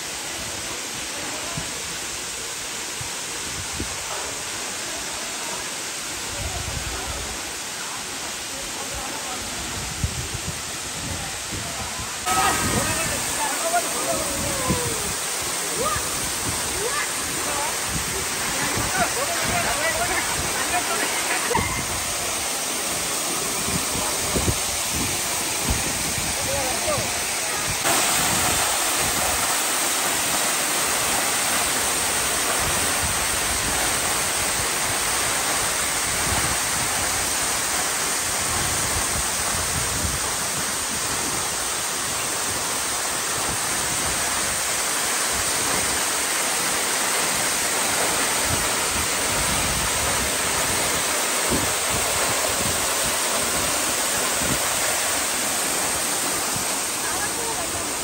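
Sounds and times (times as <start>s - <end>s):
waterfall splashing over rocks: 0.0s - 58.0s.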